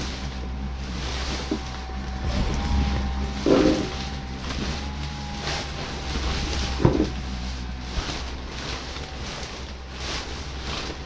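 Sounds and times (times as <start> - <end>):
blower fan whirring: 0.0 - 11.0
nylon rustling: 0.0 - 11.0.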